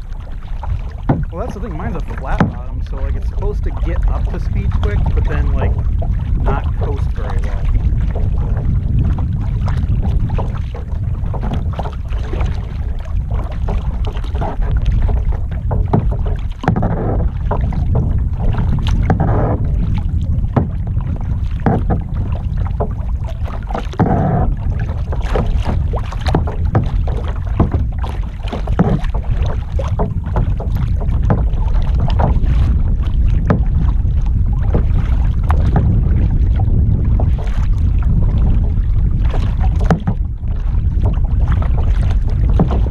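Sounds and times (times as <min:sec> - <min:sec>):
low wind rumble: 0:00.0 - 0:42.9
paddle strokes splashing: 0:00.0 - 0:42.9
water washing against kayak hull: 0:00.0 - 0:42.9.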